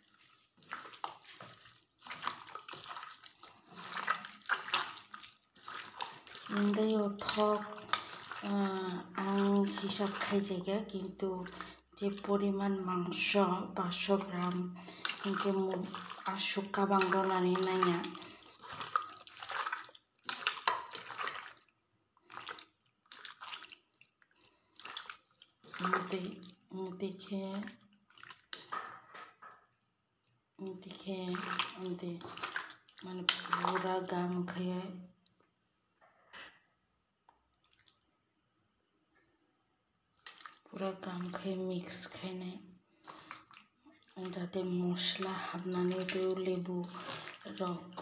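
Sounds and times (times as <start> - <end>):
wet squelching of raw chicken: 0.0 - 29.0, 29.6 - 34.7, 37.6 - 38.1, 40.1 - 48.0.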